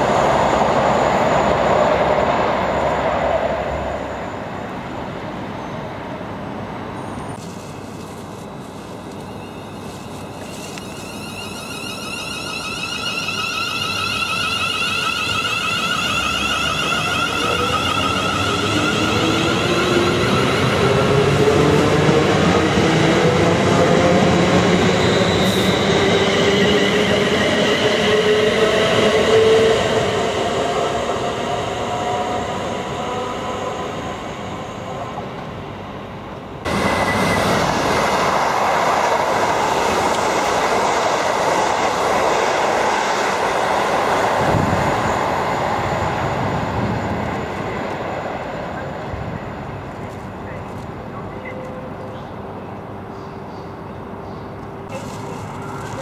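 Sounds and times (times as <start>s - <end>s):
train wheels rushing on rails: 0.0s - 56.0s.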